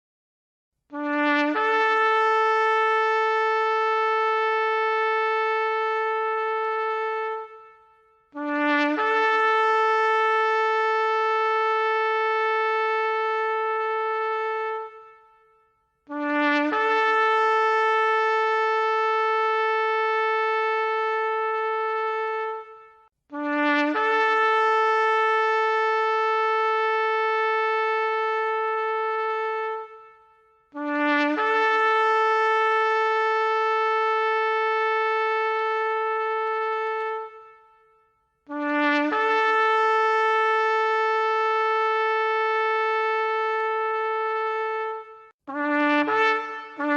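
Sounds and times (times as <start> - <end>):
shofar blasts: 0.9 - 46.9.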